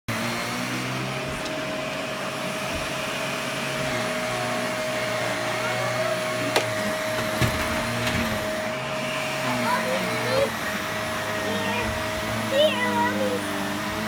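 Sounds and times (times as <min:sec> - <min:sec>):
vacuum cleaner running: 0:00.1 - 0:14.0.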